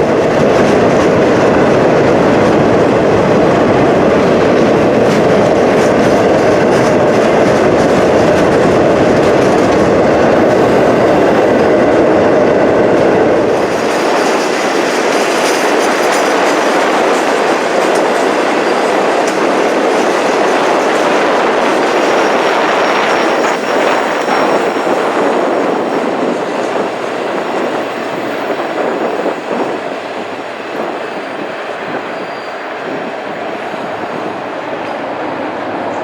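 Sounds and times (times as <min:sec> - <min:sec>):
train wheels clacking on rails: 0:00.0 - 0:36.0.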